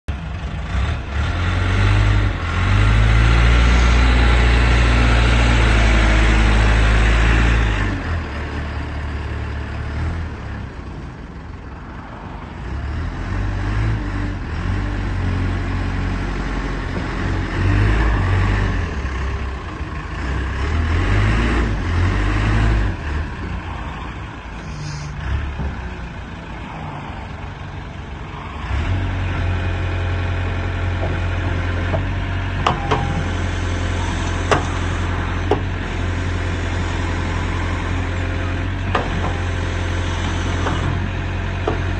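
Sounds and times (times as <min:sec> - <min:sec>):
diesel engine revving: 0:00.1 - 0:41.9.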